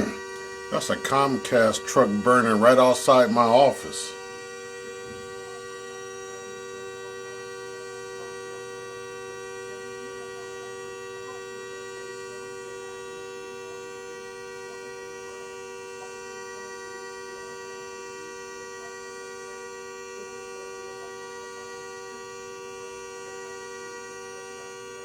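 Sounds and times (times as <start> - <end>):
electrical machine hum: 0.0 - 25.0.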